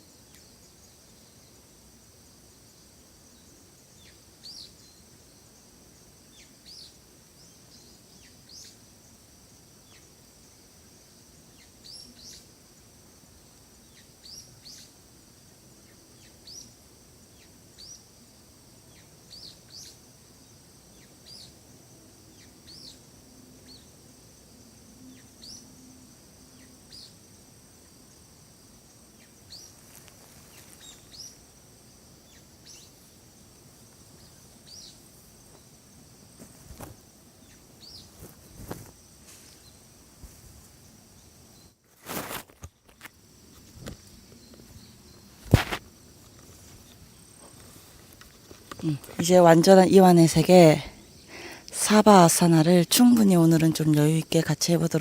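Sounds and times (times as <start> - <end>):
high insect drone: 0.0 - 55.0.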